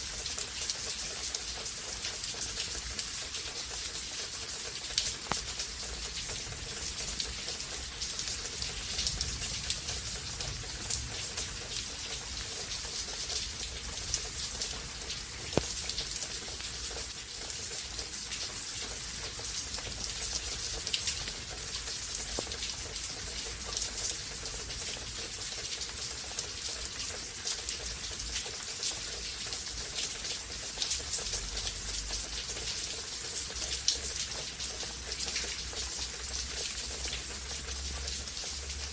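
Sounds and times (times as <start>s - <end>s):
raindrops striking close by: 0.0s - 38.9s
steady rainfall: 0.0s - 38.9s.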